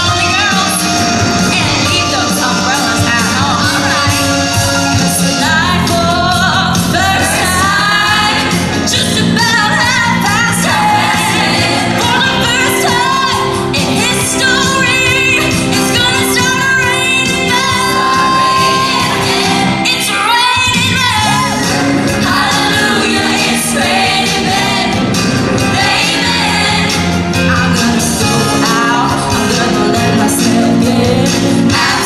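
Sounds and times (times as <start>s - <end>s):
lead vocals singing: 0.0s - 32.0s
live rock band playing: 0.0s - 32.0s.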